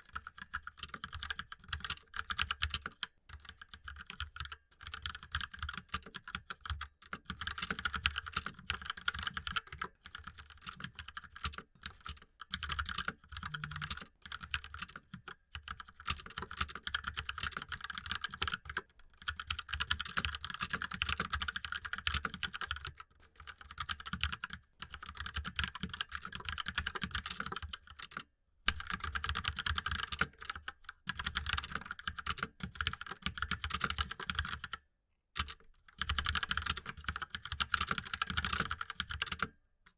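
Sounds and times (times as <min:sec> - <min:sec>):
laptop keyboard typing: 0:00.0 - 0:34.8, 0:35.4 - 0:39.6
mechanical keyboard typing: 0:00.0 - 0:34.8, 0:35.4 - 0:39.6.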